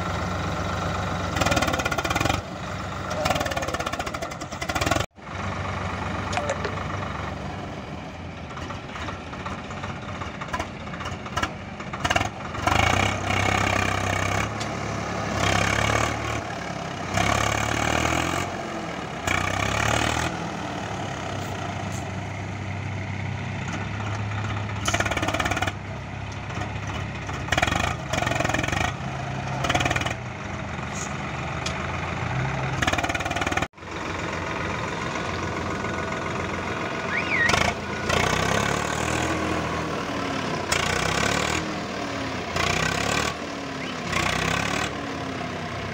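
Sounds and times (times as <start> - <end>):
tractor diesel engine labouring: 0.0 - 45.9.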